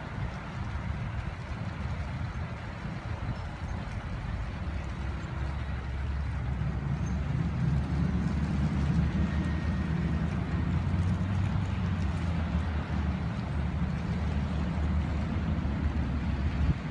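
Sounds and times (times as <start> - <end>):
fire engine diesel rumble: 0.0 - 16.9.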